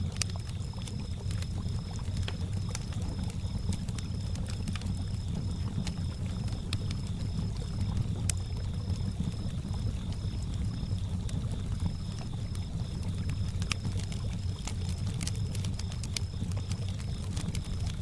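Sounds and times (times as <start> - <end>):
campfire crackling and popping: 0.0 - 18.0
cricket chirping: 0.0 - 18.0.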